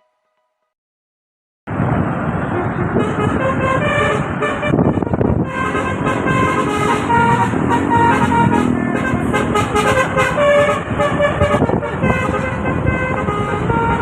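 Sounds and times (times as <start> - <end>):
vehicle noise: 1.7 - 14.0
bus horn playing quick melody: 2.4 - 14.0.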